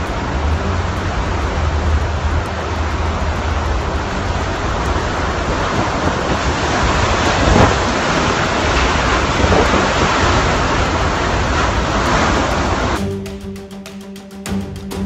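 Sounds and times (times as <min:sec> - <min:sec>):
heavy rain: 0:00.0 - 0:13.1
hurricane wind: 0:00.0 - 0:13.3.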